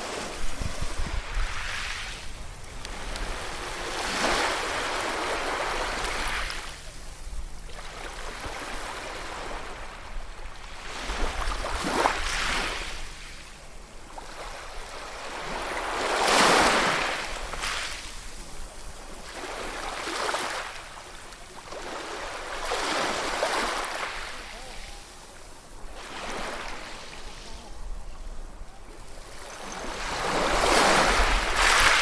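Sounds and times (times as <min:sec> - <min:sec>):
sea waves breaking on shore: 0:00.0 - 0:13.5, 0:14.1 - 0:32.0.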